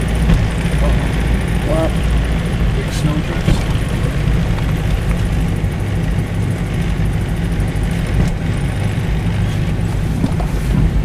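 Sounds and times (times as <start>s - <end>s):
car engine and tyres droning: 0.0s - 11.0s.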